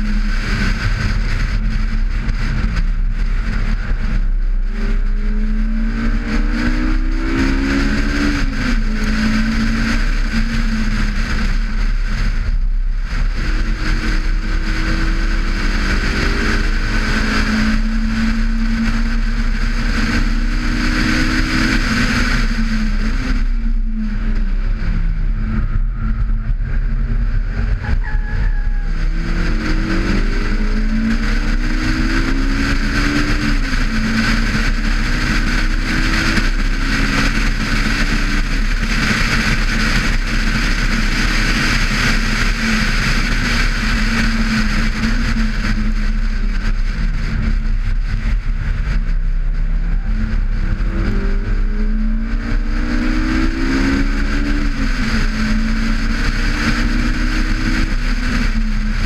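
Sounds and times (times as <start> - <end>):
car engine revving hard: 0.0 - 59.0
wind noise: 0.0 - 59.0.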